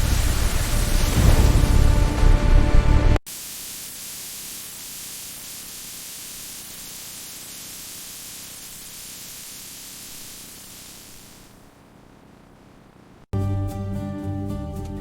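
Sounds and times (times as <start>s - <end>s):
steady hiss: 0.0s - 13.3s.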